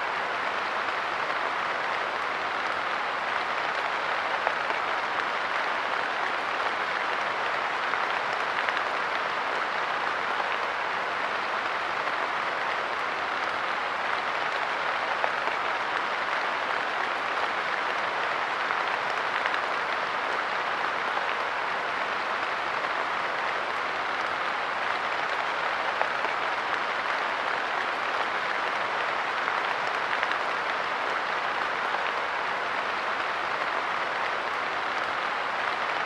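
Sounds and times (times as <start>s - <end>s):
light rain on a bench: 0.0s - 36.0s.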